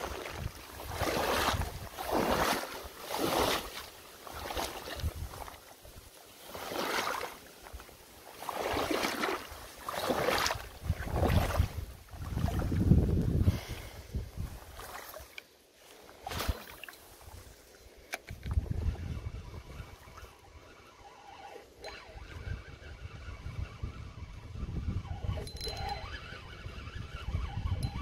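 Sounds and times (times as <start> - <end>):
water swishing and splashing: 0.0 - 23.0.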